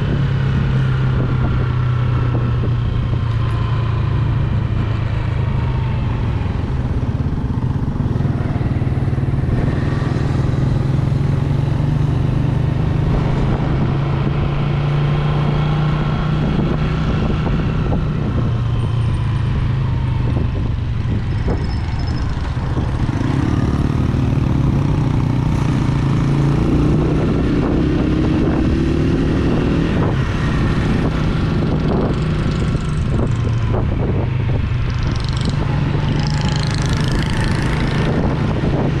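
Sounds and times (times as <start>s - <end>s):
motorcycle engine running: 0.0s - 14.6s, 20.3s - 39.0s
road and wind noise: 0.0s - 39.0s.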